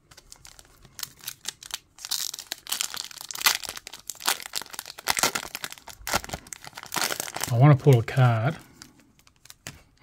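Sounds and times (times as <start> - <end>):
foil wrapper crinkling and tearing: 0.0 - 9.9.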